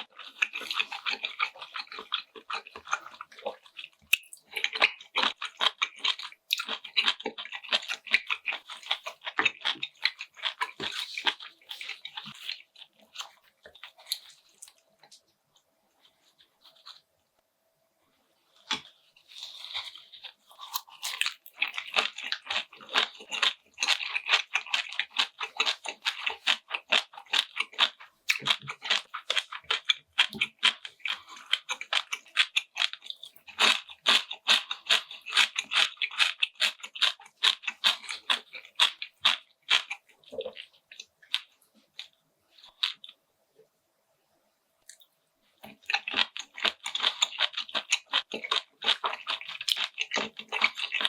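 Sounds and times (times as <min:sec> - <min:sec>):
chewing and crunching food: 0:00.0 - 0:17.2, 0:18.5 - 0:43.3, 0:44.8 - 0:51.0.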